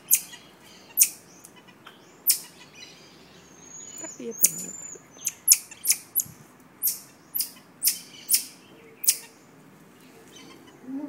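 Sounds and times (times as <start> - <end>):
marmoset high-pitched calls: 0.0 - 3.0, 3.6 - 9.4, 10.3 - 10.8.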